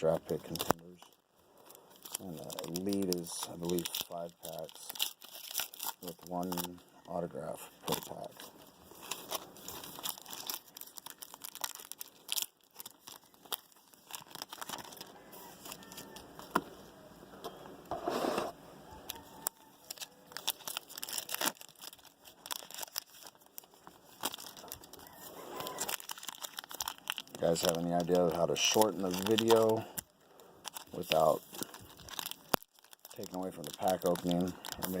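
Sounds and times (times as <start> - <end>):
card wrappers tearing and crinkling: 0.0 - 17.0, 18.9 - 35.0.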